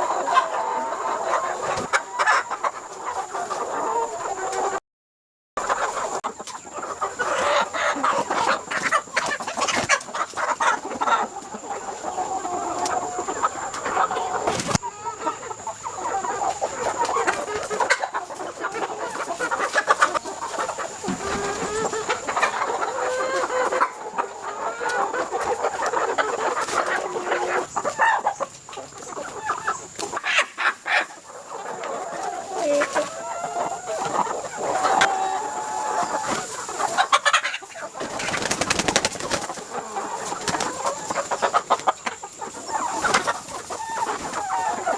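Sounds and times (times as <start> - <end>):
chickens clucking and squawking: 0.0 - 4.8, 5.6 - 44.9.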